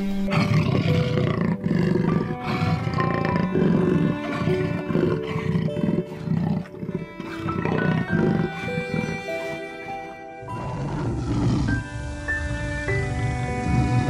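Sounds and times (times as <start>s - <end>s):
background music with held tones: 0.0s - 14.0s.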